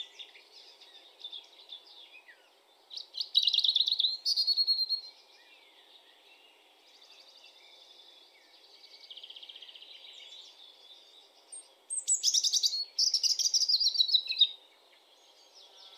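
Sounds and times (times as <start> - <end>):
robin singing: 0.0 - 15.9.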